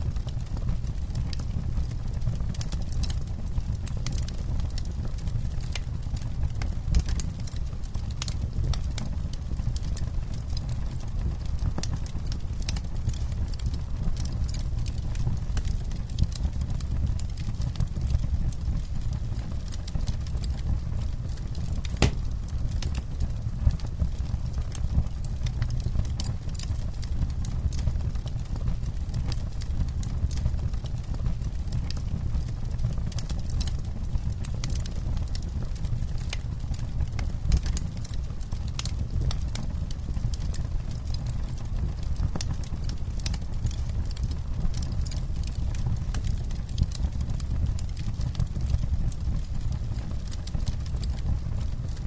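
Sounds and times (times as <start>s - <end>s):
campfire crackling: 0.0s - 52.0s
fire pops and snaps: 0.0s - 52.0s.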